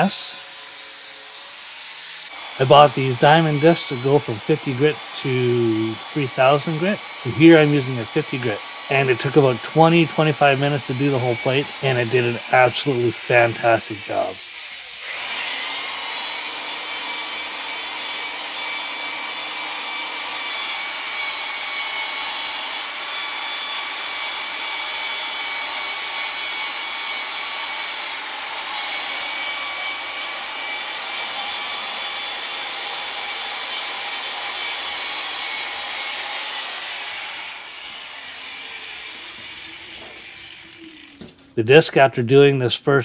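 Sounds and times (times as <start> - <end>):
electric polisher motor whine: 0.0 - 41.4.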